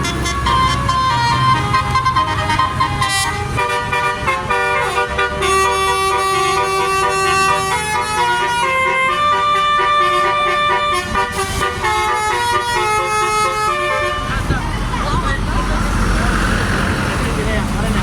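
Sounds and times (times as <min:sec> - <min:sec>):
musical bus horn melody: 0:00.0 - 0:15.1
bus engine running: 0:00.0 - 0:18.0.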